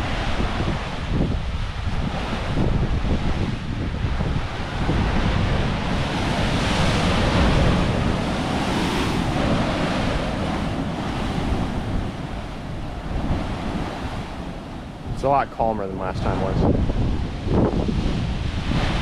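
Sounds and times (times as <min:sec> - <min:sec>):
wind buffeting microphone: 0:00.0 - 0:19.0
surf breaking against rocks: 0:01.9 - 0:19.0.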